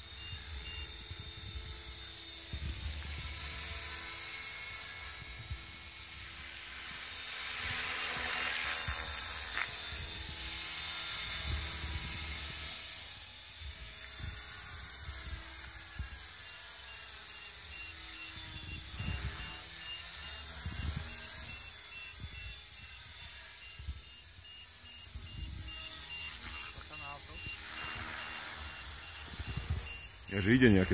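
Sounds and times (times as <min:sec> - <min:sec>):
rc helicopter motor whine: 0:00.0 - 0:30.9.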